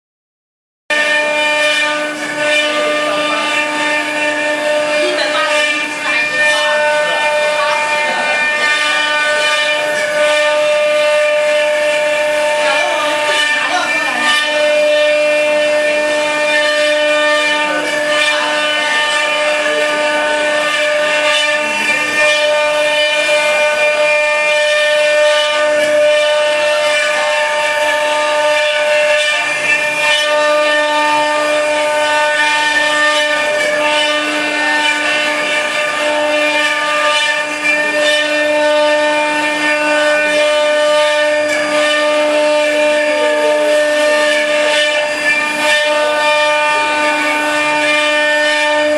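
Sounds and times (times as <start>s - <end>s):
bits cutting wood: 0.9s - 48.9s
router spindles whining: 0.9s - 48.9s.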